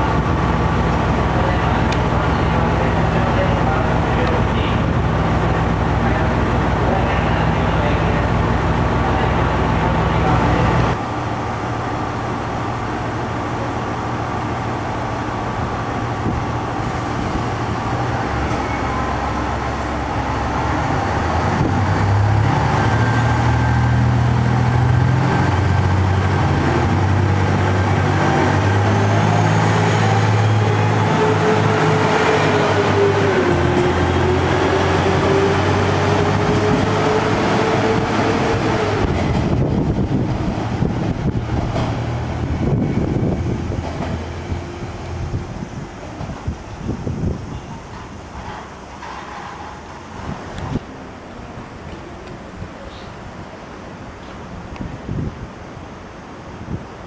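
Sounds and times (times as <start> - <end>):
rising whine of train: 0.0 - 57.0
train engine droning: 0.0 - 57.0.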